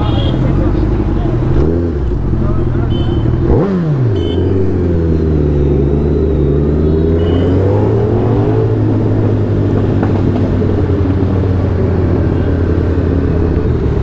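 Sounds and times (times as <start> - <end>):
motorcycle engine at low revs: 0.4 - 14.0.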